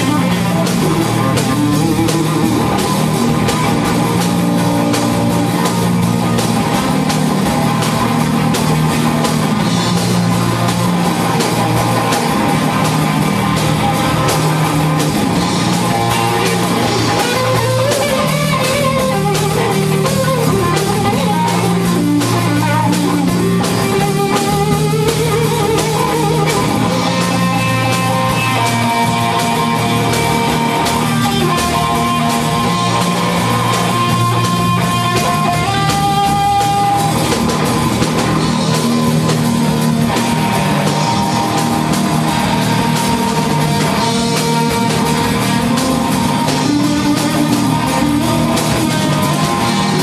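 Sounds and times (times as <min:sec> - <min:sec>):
drum kit: 0:00.0 - 0:50.0
electric guitar: 0:00.0 - 0:50.0.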